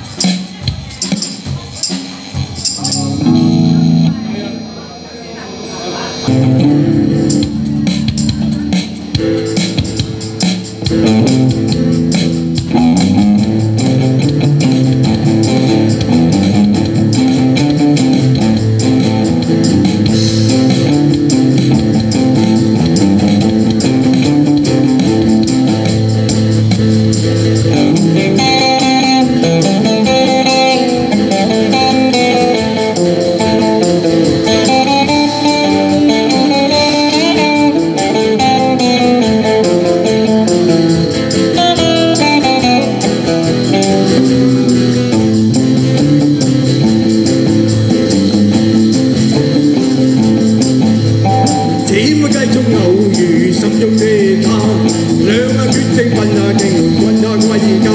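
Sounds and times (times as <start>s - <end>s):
drum kit: 0.0s - 4.7s, 6.2s - 57.9s
bass guitar: 0.0s - 5.0s, 6.1s - 57.9s
electric guitars: 0.0s - 57.9s
higher lead melody: 0.0s - 57.9s.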